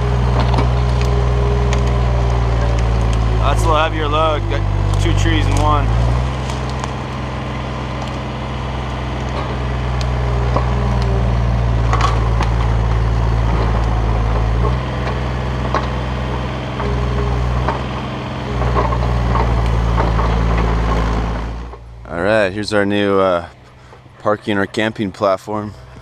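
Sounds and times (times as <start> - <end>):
excavator diesel engine running: 0.0 - 26.0
wood and brush snapping: 0.1 - 4.0, 4.6 - 21.9.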